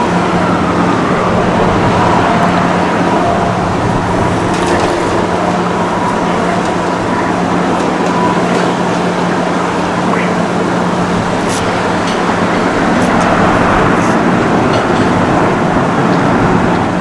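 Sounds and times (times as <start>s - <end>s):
jet engine rush: 0.0s - 17.0s
low hum: 0.0s - 17.0s.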